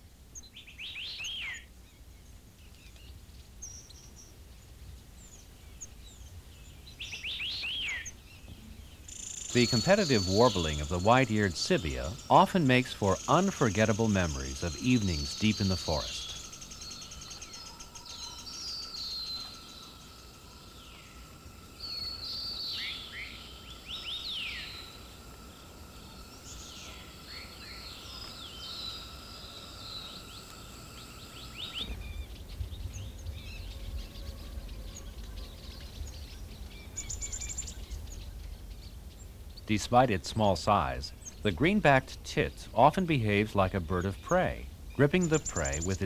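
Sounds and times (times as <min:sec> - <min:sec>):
faint bird chirps: 0:00.0 - 0:46.0
insect drone: 0:00.0 - 0:46.0
birds whistling song: 0:00.3 - 0:46.0
low wind rumble: 0:04.1 - 0:46.0.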